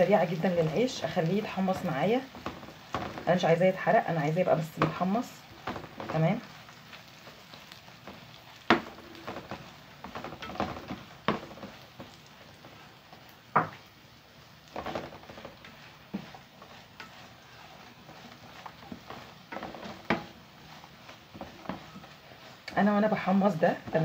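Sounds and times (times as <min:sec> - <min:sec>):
faint sizzle: 0:00.0 - 0:24.0
spatula scraping a frying pan: 0:00.0 - 0:24.0.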